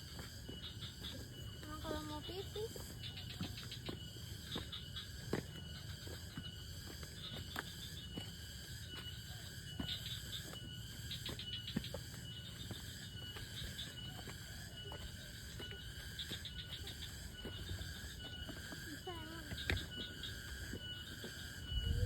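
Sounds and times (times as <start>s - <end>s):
high-pitched ringing tones: 0.0s - 22.0s
insects chirping in trills: 0.0s - 22.0s.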